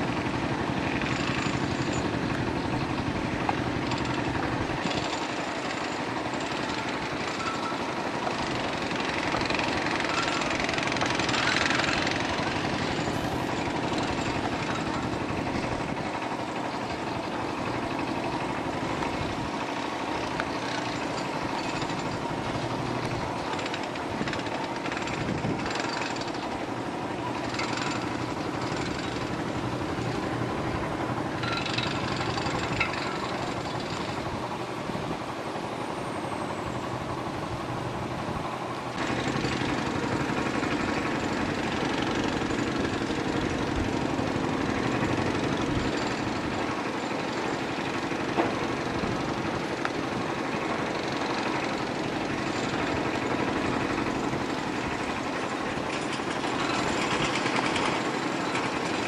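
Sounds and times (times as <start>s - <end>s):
construction machinery engine drone: 0.0s - 59.0s.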